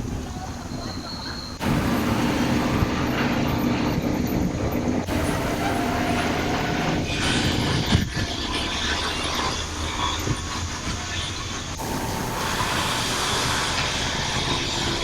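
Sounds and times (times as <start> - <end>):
construction machinery hum and clatter: 0.0 - 15.0.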